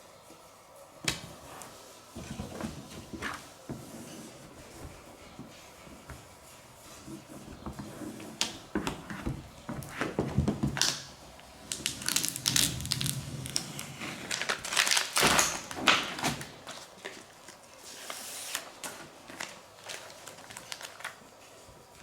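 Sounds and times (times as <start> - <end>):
vinyl and paper crinkling and scraping: 1.4 - 22.0.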